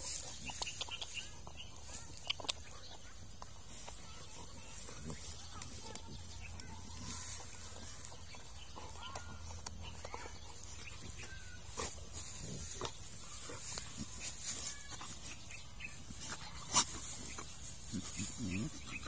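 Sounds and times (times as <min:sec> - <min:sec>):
dog vocal noises: 0:00.0 - 0:19.0
grass rustling: 0:00.0 - 0:19.0.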